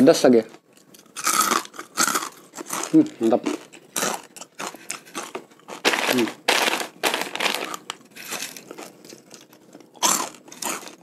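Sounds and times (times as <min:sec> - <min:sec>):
crunchy chewing: 0:00.5 - 0:11.0
crispy snack crackling and rustling: 0:01.1 - 0:11.0.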